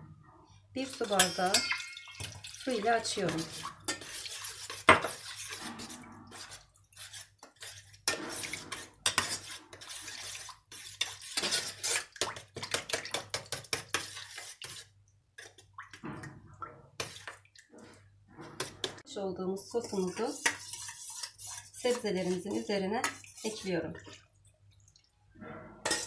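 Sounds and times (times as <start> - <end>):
spoon scraping a steel pot: 0.8 - 15.6, 17.0 - 19.0, 19.7 - 24.2, 25.5 - 26.0.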